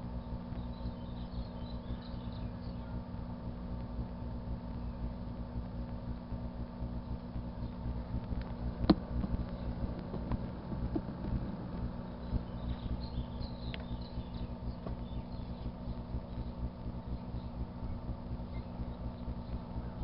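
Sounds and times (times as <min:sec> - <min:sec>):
microwave oven humming: 0:00.0 - 0:20.0.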